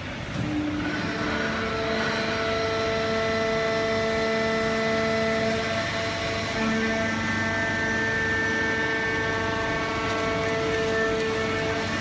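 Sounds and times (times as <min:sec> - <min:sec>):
baler mechanical drone: 0:00.0 - 0:12.0
steady whining tones: 0:00.0 - 0:12.0.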